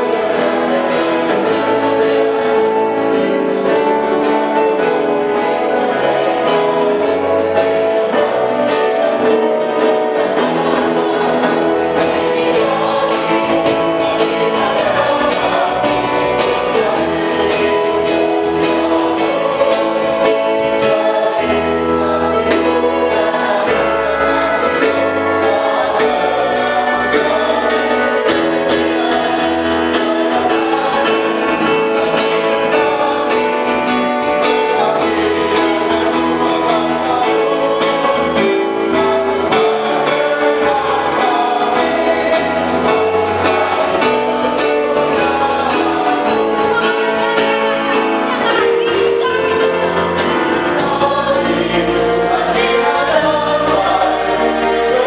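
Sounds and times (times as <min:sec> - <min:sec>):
bass guitar: 0:00.0 - 0:55.0
cajon beat: 0:00.0 - 0:55.0
congregation singing: 0:00.0 - 0:55.0
keyboard: 0:00.0 - 0:55.0.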